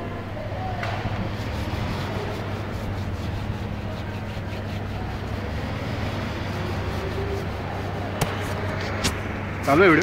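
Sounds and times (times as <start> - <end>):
industrial machinery humming: 0.0 - 10.0.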